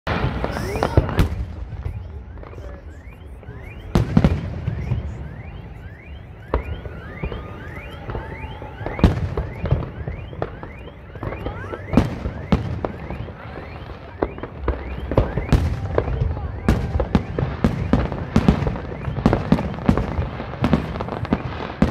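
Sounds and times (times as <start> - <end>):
fireworks rumble and crackle: 0.0 - 21.9.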